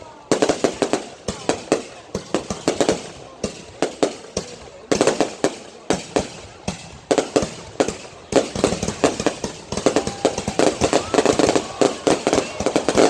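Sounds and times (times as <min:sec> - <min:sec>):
firecrackers banging: 0:00.0 - 0:13.0.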